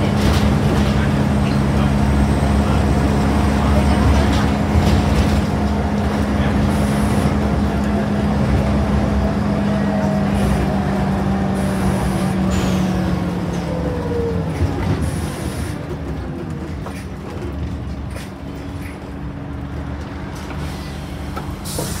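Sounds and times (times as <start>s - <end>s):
bus engine drone: 0.0s - 22.0s
road noise: 0.0s - 22.0s.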